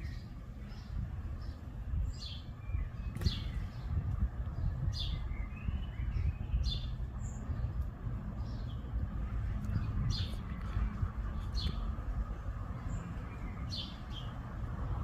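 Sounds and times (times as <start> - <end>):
low steady rumble: 0.0 - 15.0
small birds chirping: 0.0 - 15.0.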